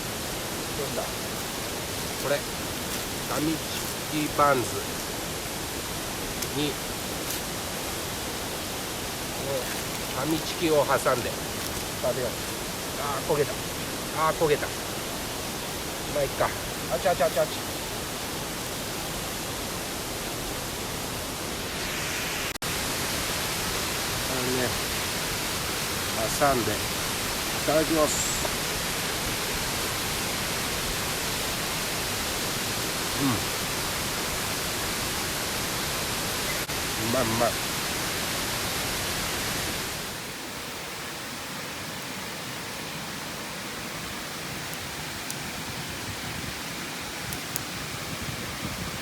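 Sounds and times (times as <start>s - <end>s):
stream rushing: 0.0s - 49.0s.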